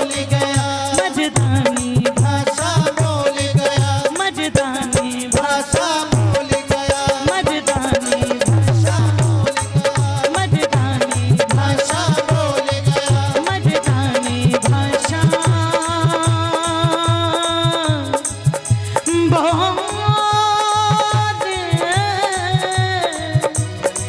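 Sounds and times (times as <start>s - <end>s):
person singing: 0.0s - 24.0s
rhythmic drum beat: 0.0s - 24.0s.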